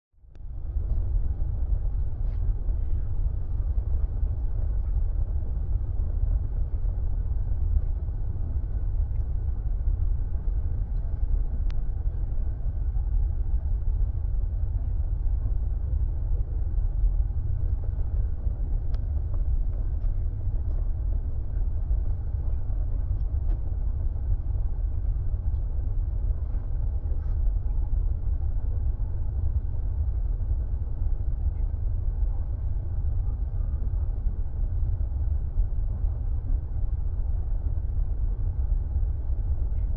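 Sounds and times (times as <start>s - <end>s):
airliner cabin engine rumble: 0.2s - 39.9s.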